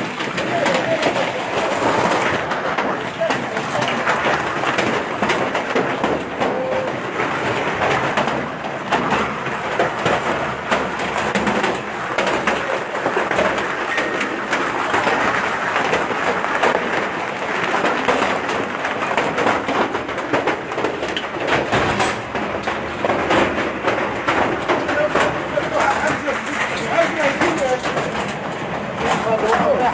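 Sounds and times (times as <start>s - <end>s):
hail pelting down: 0.0s - 29.9s.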